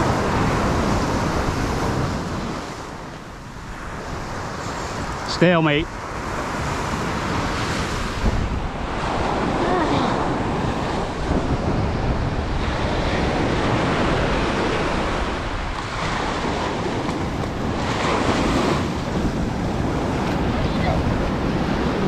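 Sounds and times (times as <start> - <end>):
surf breaking on beach: 0.0 - 22.0
wind buffeting microphone: 0.0 - 22.0.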